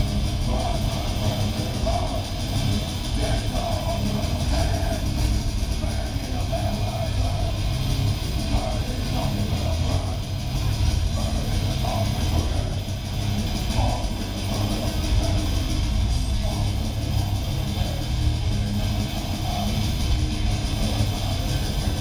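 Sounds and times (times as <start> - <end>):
distorted electric guitar: 0.0 - 22.0
drums: 0.0 - 22.0.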